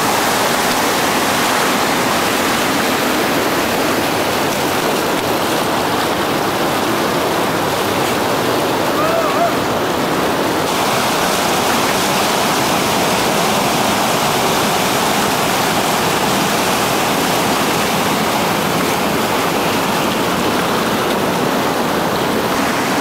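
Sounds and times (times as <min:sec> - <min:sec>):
water rushing through rapid: 0:00.0 - 0:23.0.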